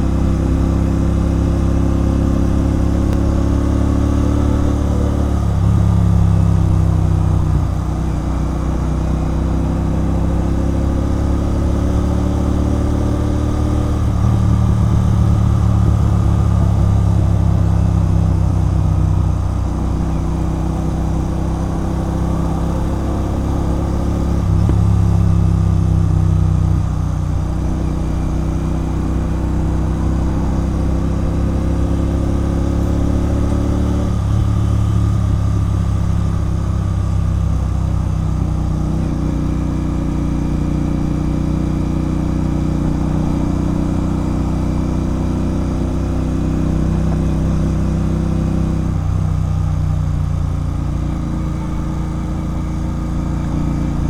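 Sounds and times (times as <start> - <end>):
motorcycle engine with loud exhaust: 0.0 - 54.0.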